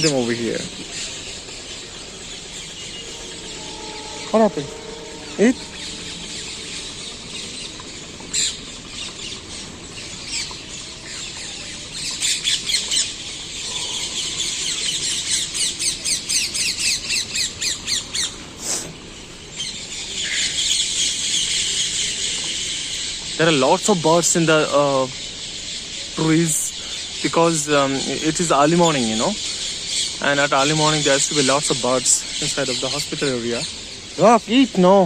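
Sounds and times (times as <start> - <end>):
flock of birds chattering: 0.0 - 35.0.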